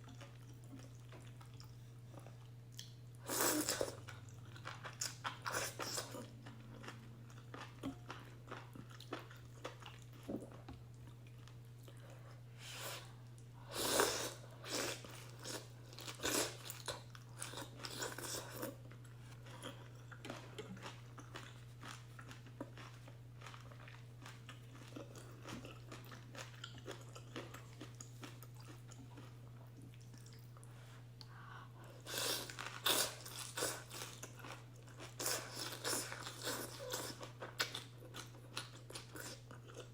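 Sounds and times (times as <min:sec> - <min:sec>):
person chewing and smacking: 0:00.0 - 0:12.1, 0:14.7 - 0:30.7, 0:32.3 - 0:39.9
steady low hum: 0:00.0 - 0:39.9.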